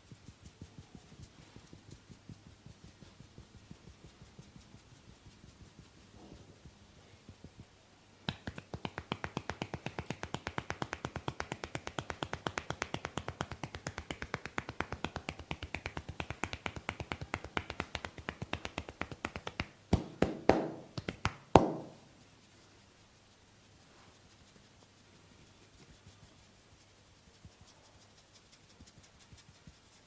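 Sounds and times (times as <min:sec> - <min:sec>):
rapid tapping on forehead: 0:00.0 - 0:30.0.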